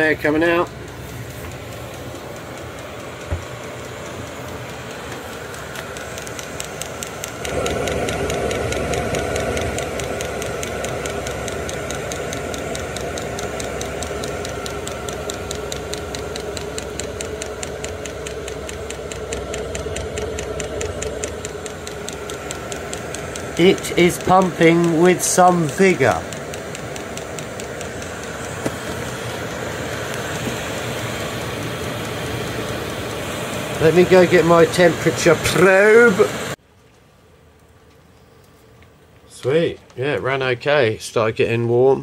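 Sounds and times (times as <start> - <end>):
fuel pump ticking: 0.0 - 36.1
heater fan and burner hum: 0.0 - 42.0.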